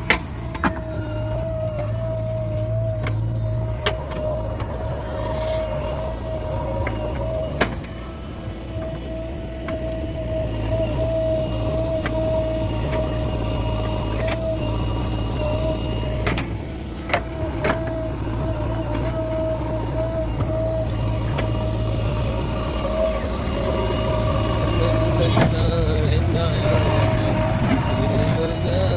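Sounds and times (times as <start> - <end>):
diesel engine whining and rumbling: 0.0 - 28.9.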